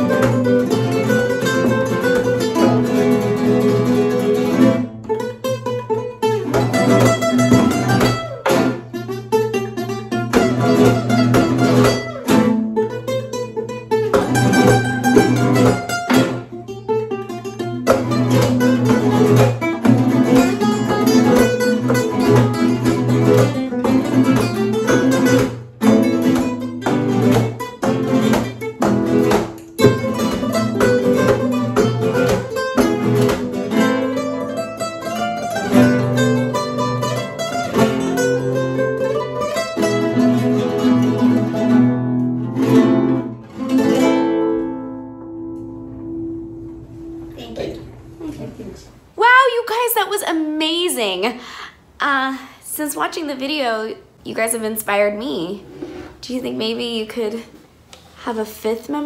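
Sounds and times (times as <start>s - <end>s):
classical guitars playing: 0.0s - 51.5s.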